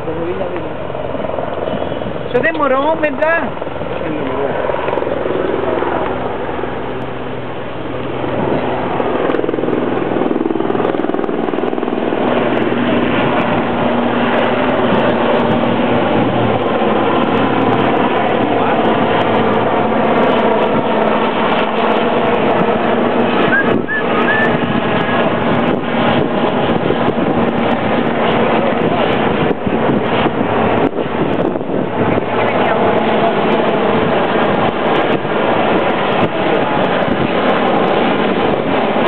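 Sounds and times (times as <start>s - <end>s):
helicopter flying overhead: 0.0s - 39.0s.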